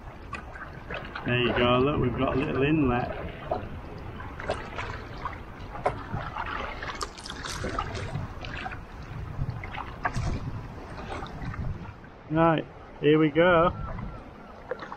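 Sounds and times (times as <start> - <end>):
water splashes and trickles: 0.0 - 14.9
waves lapping against plastic hull: 0.0 - 14.9.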